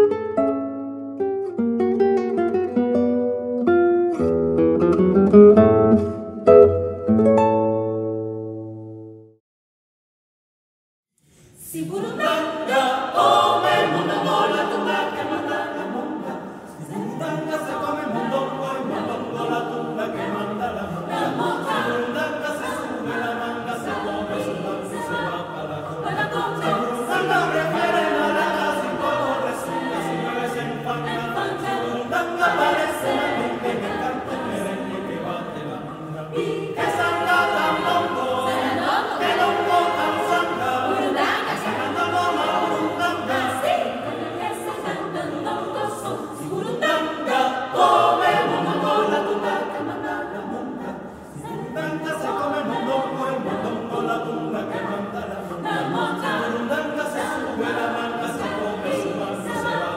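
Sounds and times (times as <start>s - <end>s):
mixed choir singing a cappella: 11.3s - 59.9s.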